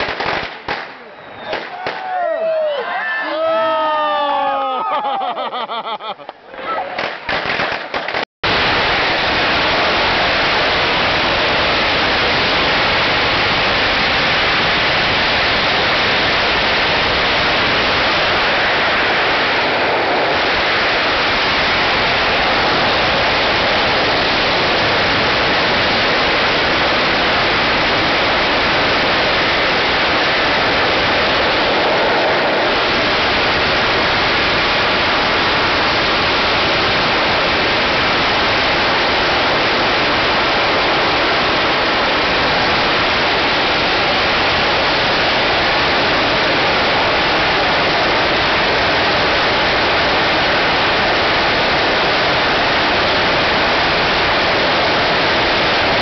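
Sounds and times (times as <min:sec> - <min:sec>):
firecrackers exploding: 0:00.0 - 0:02.3, 0:06.3 - 0:56.0.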